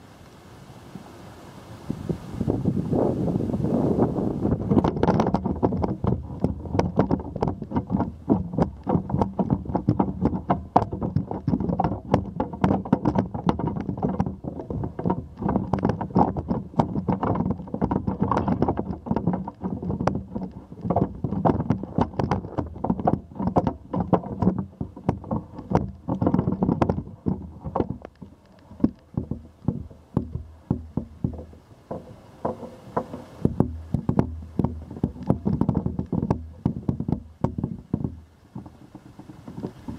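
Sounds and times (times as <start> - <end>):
camera pole knocks and rattles: 4.6 - 39.9.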